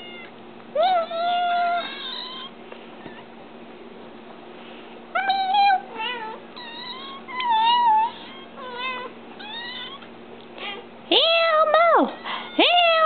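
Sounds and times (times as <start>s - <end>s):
kittens mewing: 0.0s - 3.4s, 5.2s - 13.0s.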